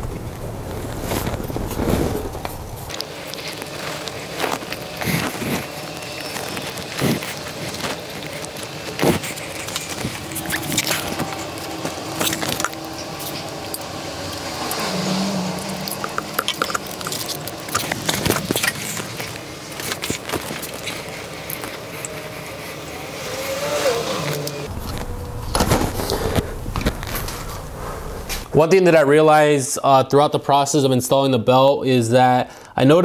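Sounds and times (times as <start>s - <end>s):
faint steady hum: 0.0s - 28.6s.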